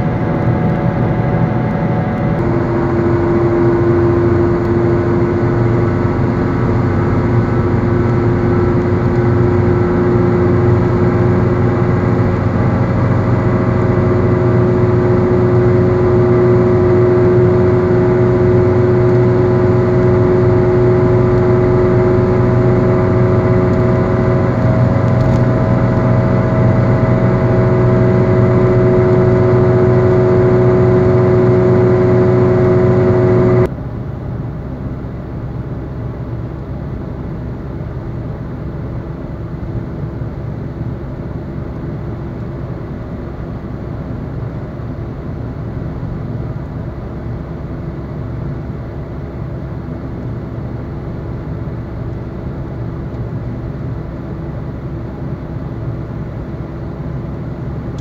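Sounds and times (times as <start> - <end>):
road and tyre noise: 0.0 - 58.0
wheel bearing drone: 0.0 - 58.0.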